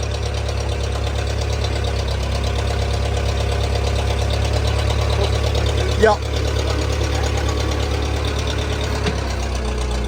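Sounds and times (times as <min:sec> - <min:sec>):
backhoe engine idling: 0:00.0 - 0:10.0.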